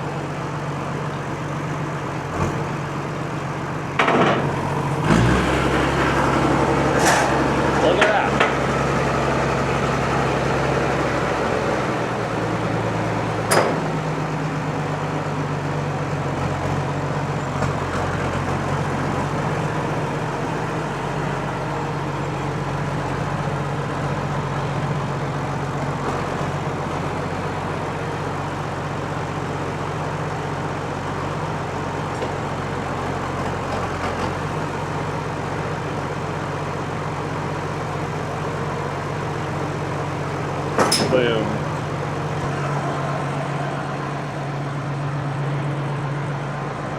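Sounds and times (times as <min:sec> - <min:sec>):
farm machine engine running: 0:00.0 - 0:46.9.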